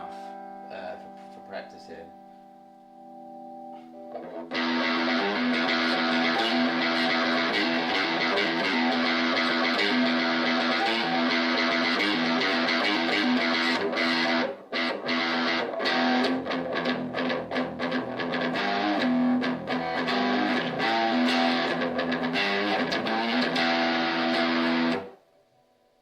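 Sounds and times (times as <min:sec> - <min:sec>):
electric guitar through small amp: 0:03.0 - 0:25.2.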